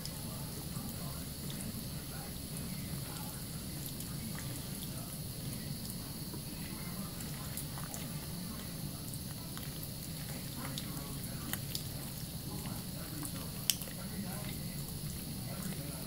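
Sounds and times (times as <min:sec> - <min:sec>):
wet clicks of lather: 0:00.0 - 0:16.0.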